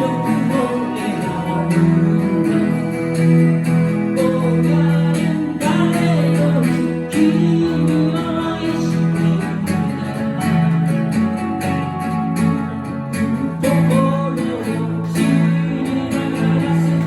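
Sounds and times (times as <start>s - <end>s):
melody line: 0.0s - 17.0s
strummed acoustic guitars: 0.0s - 17.0s.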